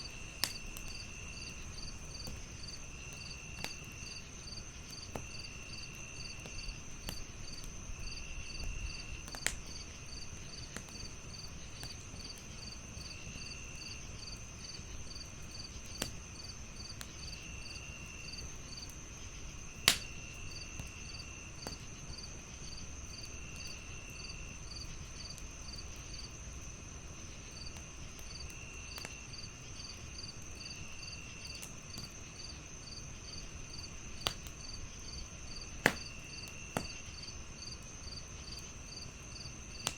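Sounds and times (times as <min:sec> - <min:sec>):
crickets chirping: 0:00.0 - 0:39.9
wood fire crackling pops: 0:00.0 - 0:39.9.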